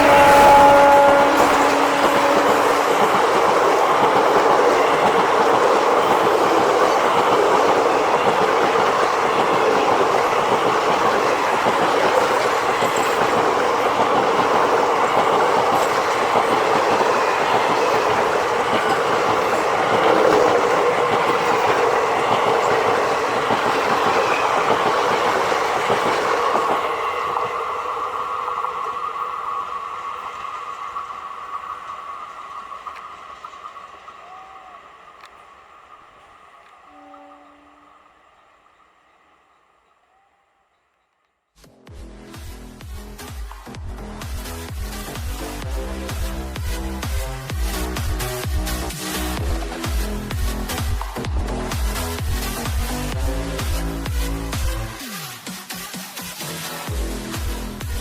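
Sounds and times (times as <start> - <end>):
train wheels clattering: 0.0 - 39.6, 41.9 - 58.0.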